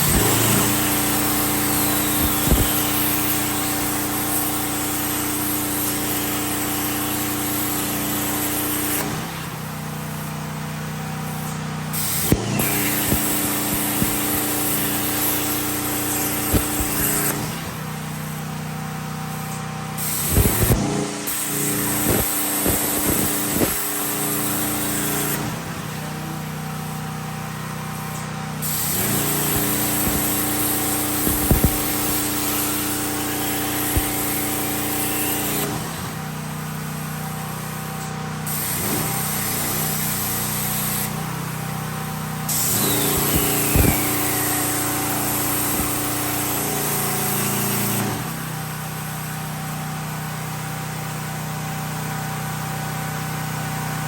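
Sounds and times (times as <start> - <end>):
plasma torch hissing: 0.0 - 51.5.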